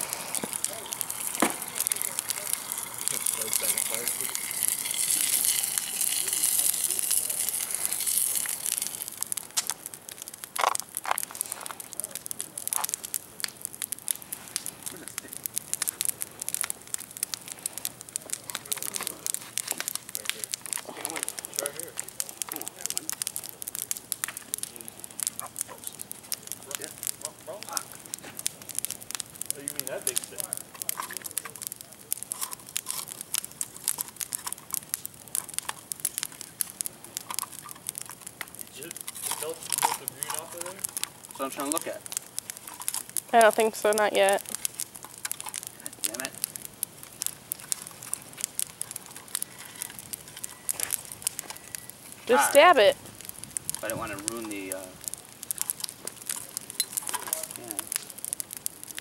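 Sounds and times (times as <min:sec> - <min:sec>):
campfire crackling: 0:00.0 - 0:59.0
fire pops: 0:00.0 - 0:59.0.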